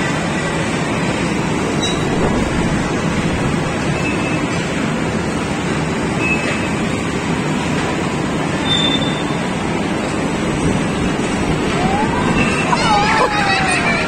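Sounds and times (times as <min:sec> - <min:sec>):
bumper cars rumbling: 0:00.0 - 0:14.0.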